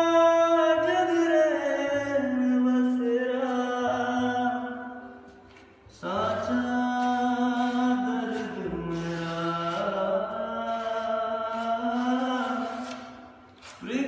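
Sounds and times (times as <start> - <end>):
person singing unaccompanied: 0.0 - 5.1, 5.9 - 14.0.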